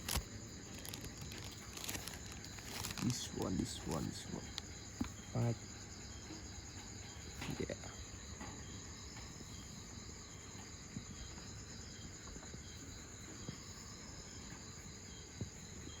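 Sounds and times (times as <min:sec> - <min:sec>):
faint repeated insect chirp: 0:00.0 - 0:16.0
insects trilling: 0:00.0 - 0:16.0.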